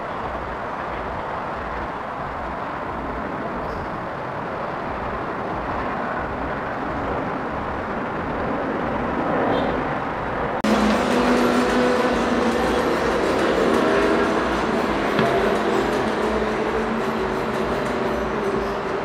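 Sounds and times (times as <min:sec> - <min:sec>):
engine noise with humming tones: 0:00.0 - 0:19.0.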